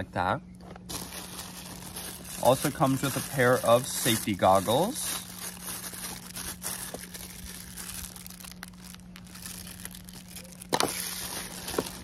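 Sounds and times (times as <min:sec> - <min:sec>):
plastic bags crinkling: 0:00.8 - 0:12.0.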